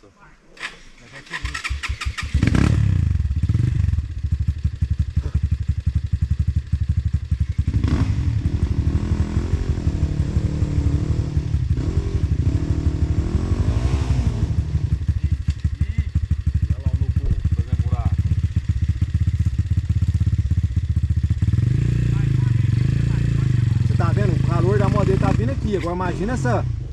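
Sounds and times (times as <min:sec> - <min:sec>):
motorcycle engine idling: 0:01.2 - 0:13.2, 0:14.5 - 0:26.9.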